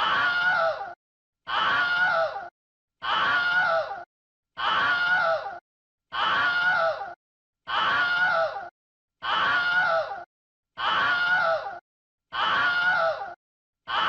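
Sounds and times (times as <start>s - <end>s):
recorded scream: 0.0s - 4.0s, 4.6s - 14.0s.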